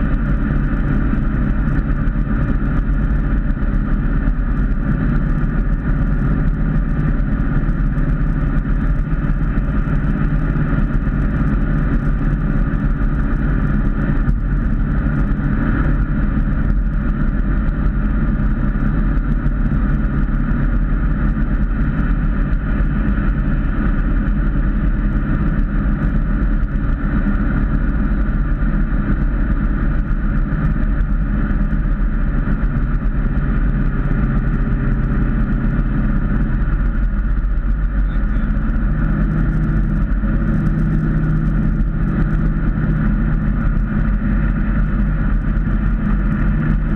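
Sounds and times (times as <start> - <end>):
car engine drone: 0.0 - 46.9.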